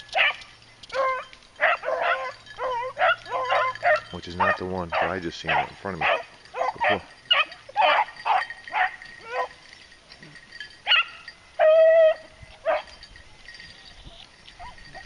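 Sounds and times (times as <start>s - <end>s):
dogs baying: 0.0s - 15.0s.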